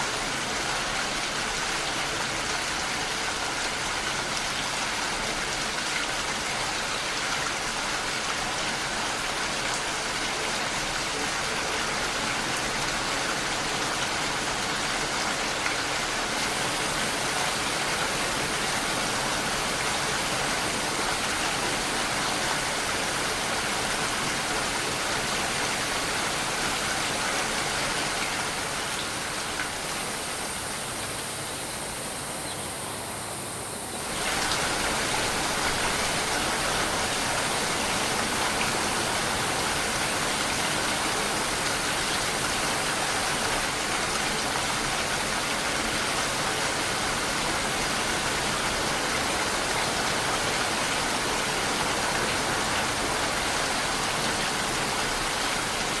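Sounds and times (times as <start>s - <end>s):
steady rainfall hiss: 0.0s - 56.0s.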